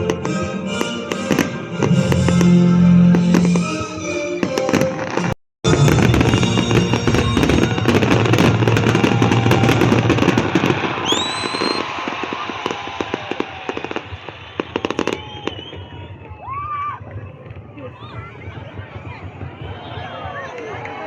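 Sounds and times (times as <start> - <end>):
firework whistle: 0.0 - 16.9
fireworks bangs and crackling: 0.0 - 21.0.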